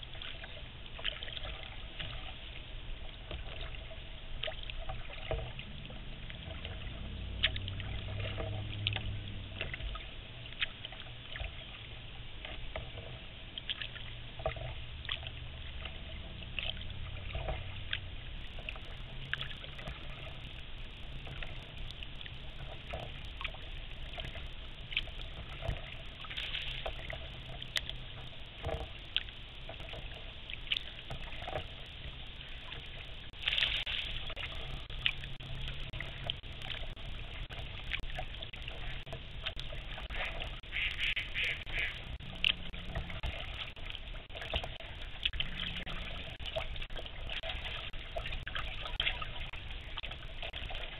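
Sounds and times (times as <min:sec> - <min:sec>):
paddle splashes and drips: 0:00.0 - 0:50.9
low rumble: 0:03.8 - 0:50.9.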